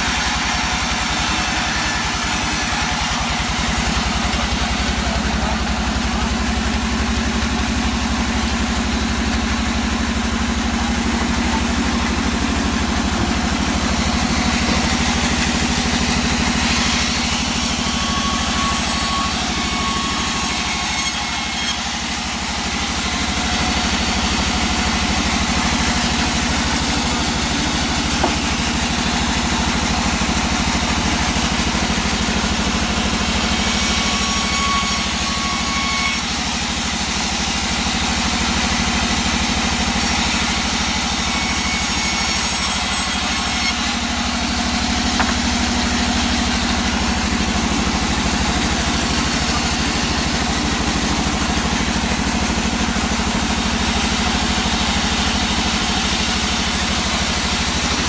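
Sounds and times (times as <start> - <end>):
wood saw engine running: 0.0 - 58.0.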